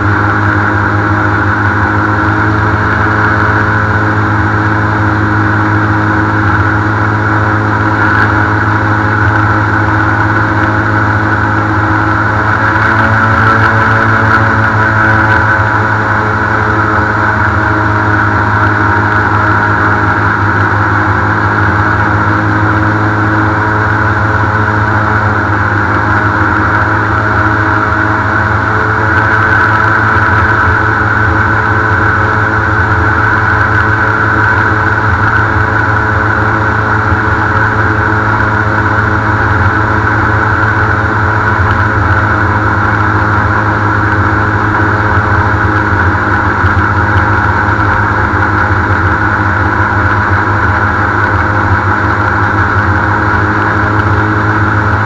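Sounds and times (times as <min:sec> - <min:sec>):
airboat engine and propeller: 0:00.0 - 0:55.0.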